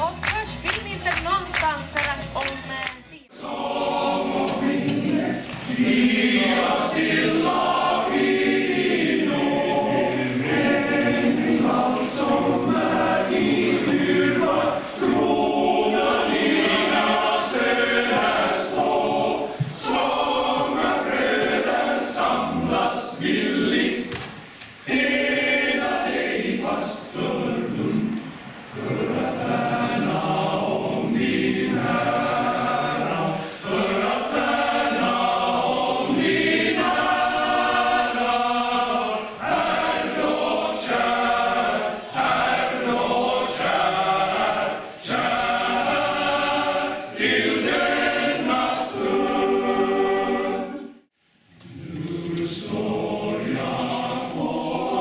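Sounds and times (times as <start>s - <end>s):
male choir singing: 3.3s - 51.0s, 51.6s - 55.0s.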